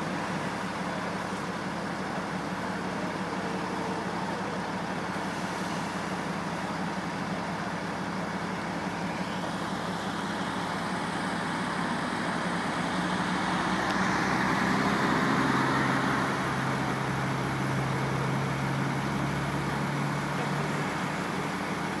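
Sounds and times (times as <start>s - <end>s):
low engine hum: 0.0s - 22.0s
road traffic noise: 0.0s - 22.0s.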